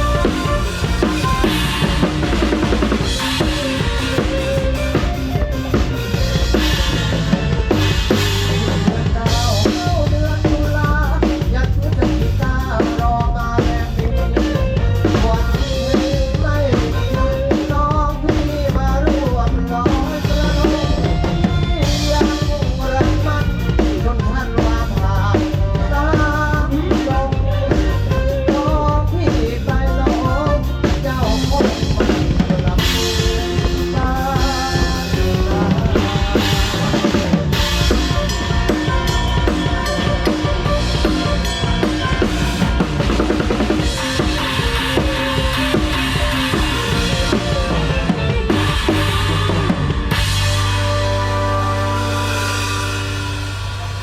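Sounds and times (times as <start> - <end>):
bass drum and snare beat: 0.0 - 54.0
live band playing cha-cha: 0.0 - 54.0.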